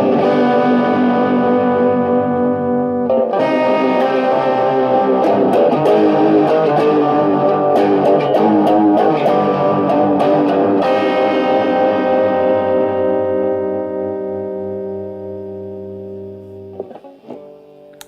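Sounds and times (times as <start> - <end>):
electric guitar with phaser: 0.0 - 18.0.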